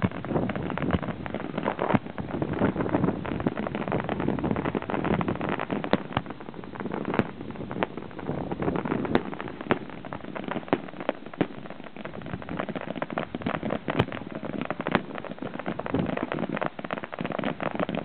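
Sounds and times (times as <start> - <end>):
fireworks bangs: 0.0 - 18.0
fireworks crackling and popping: 0.0 - 18.0.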